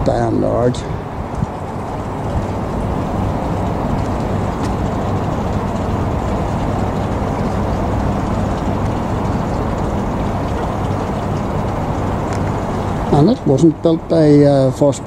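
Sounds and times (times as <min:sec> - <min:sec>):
engine-like drone: 0:00.0 - 0:15.0.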